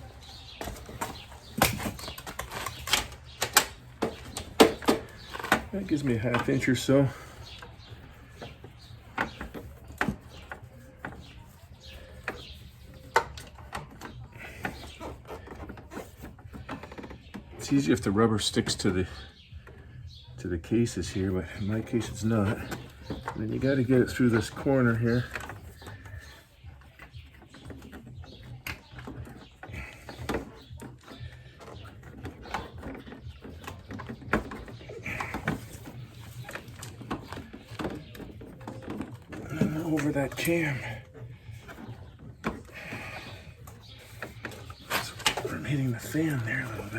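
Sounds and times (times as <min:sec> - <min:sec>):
engine cover knocking and clicking: 0:00.0 - 0:18.9, 0:20.8 - 0:46.9.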